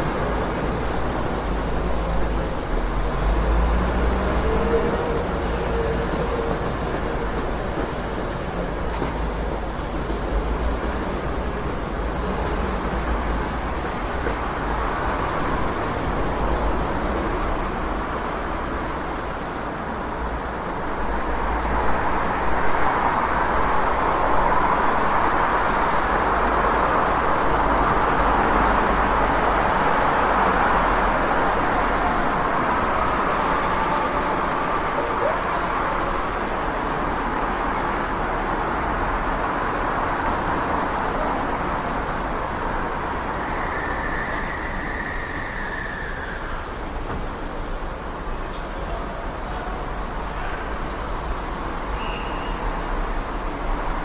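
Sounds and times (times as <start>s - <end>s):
low traffic rumble: 0.0s - 54.0s
passing vehicles: 0.0s - 54.0s.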